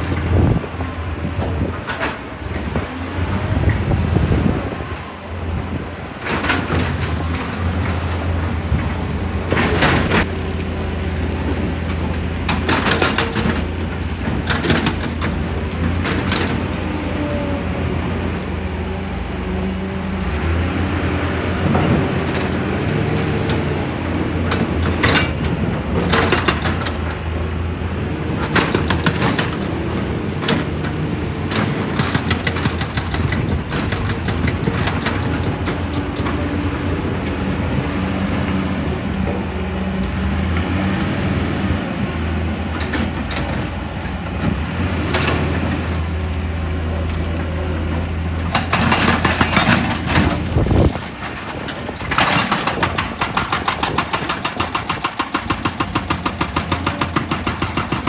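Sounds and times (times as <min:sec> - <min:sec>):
excavator engine running: 0:00.0 - 0:58.0.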